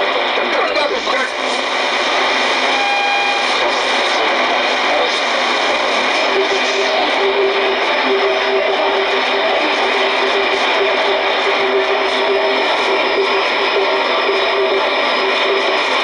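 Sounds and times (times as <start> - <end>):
music over radio: 0.0 - 16.0.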